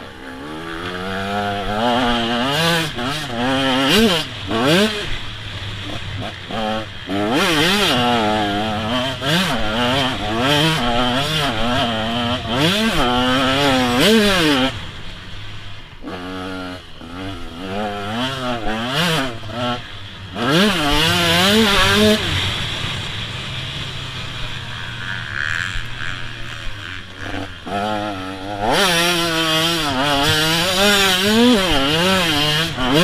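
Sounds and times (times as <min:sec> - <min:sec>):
two-stroke motocross bike revving: 0:00.0 - 0:33.0.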